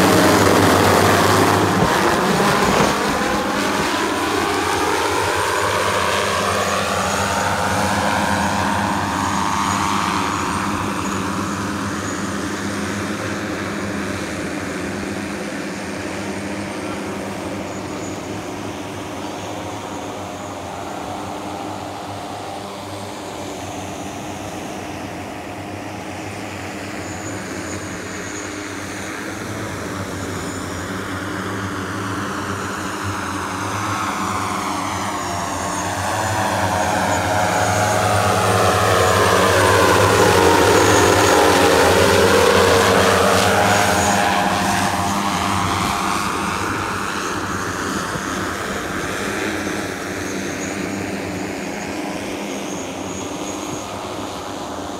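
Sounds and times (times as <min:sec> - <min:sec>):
hoverboard propellers droning: 0:00.0 - 0:54.9.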